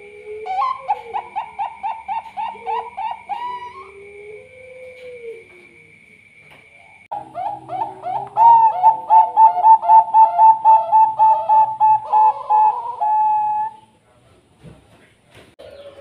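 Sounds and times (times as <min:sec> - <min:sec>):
dove cooing: 0:00.0 - 0:06.0, 0:06.9 - 0:14.0, 0:15.6 - 0:16.0.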